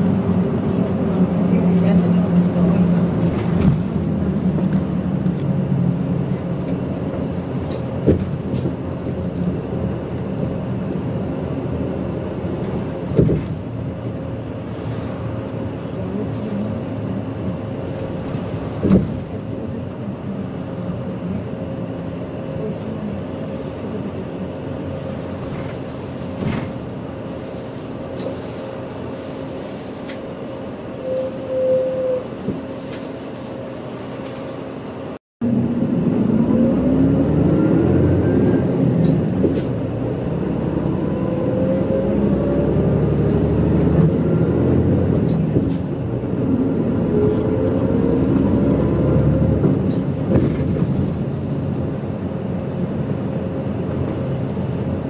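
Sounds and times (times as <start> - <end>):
bus engine accelerating: 0.0 - 55.0
bus engine droning: 0.0 - 55.0.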